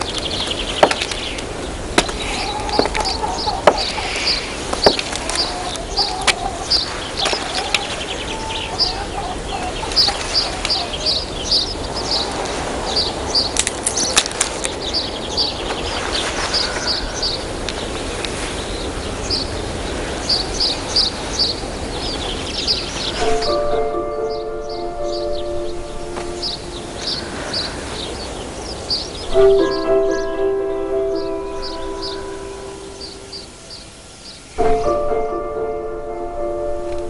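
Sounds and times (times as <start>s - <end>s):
small birds chirping: 0.0s - 35.1s.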